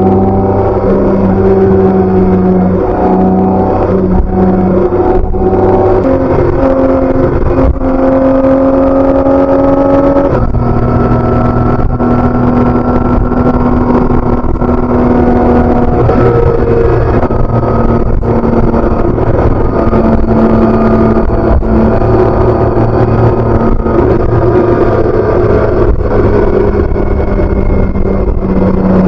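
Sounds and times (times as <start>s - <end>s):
motorcycle engine while riding: 0.0s - 29.0s.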